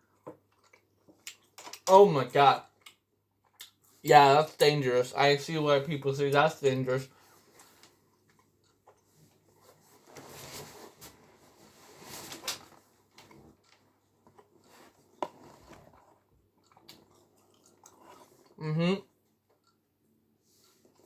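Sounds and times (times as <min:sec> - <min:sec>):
soft chewing: 0:00.0 - 0:01.9, 0:02.6 - 0:04.2, 0:07.0 - 0:10.2, 0:10.8 - 0:21.0.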